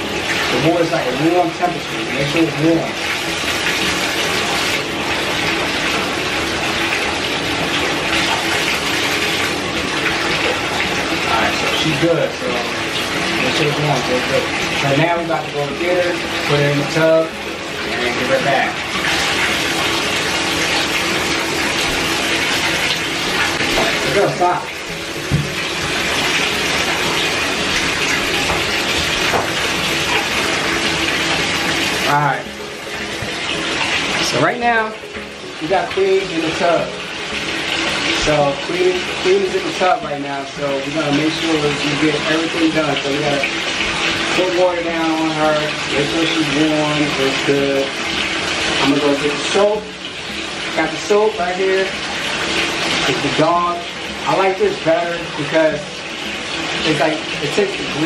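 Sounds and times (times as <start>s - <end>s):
water running into bathtub: 0.0s - 58.0s.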